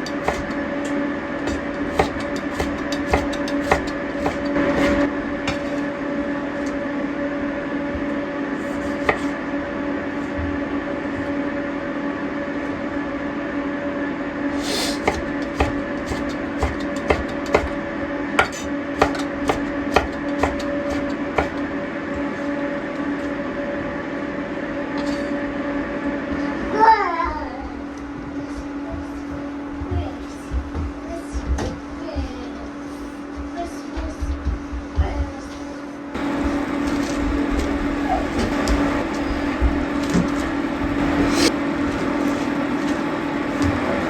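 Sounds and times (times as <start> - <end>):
machine hum: 0.0 - 35.2, 36.0 - 44.0.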